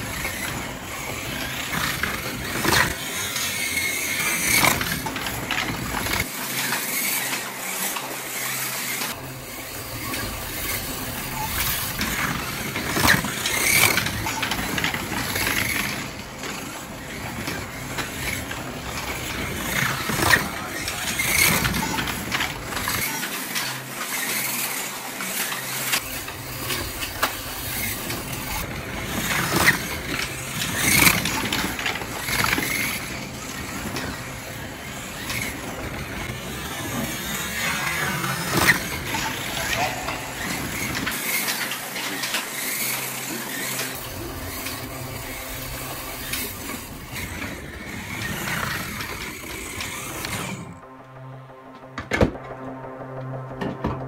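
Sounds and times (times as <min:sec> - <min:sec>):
slot car electric motors whining: 0:00.0 - 0:54.0.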